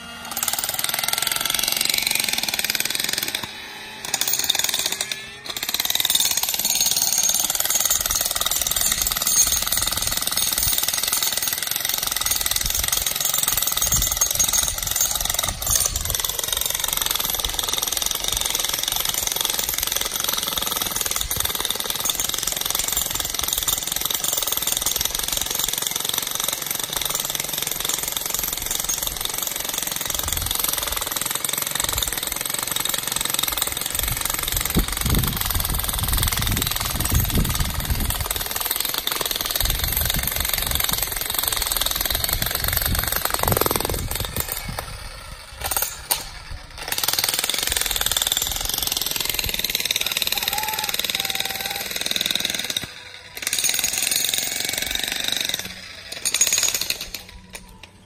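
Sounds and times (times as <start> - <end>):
jackhammer hammering rocky ground: 0.0 - 57.8.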